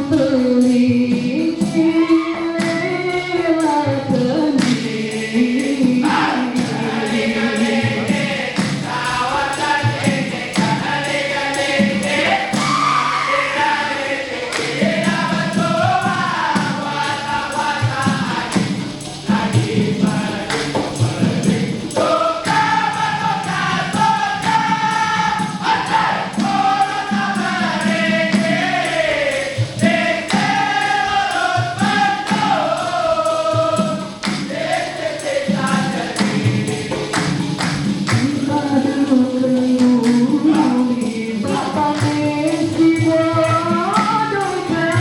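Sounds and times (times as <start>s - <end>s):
percussion beat: 0.0s - 45.0s
vocal group singing in harmony: 0.0s - 45.0s.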